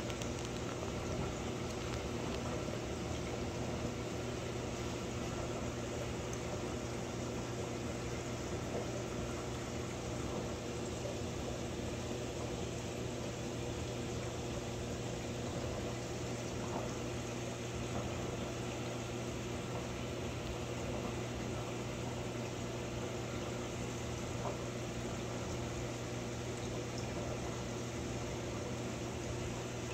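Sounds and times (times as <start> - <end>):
pump motors humming: 0.0 - 29.9.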